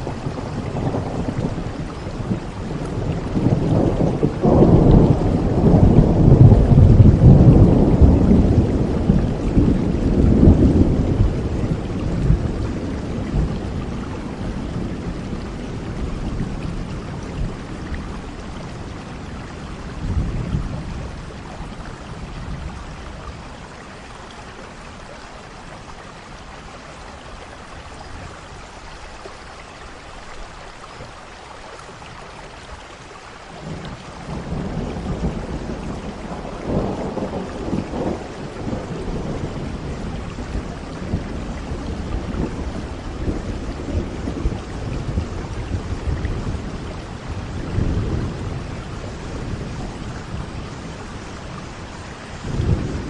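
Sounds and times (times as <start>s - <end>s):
rolling thunder: 0.0s - 23.9s, 33.5s - 53.0s
steady rain: 0.0s - 53.0s.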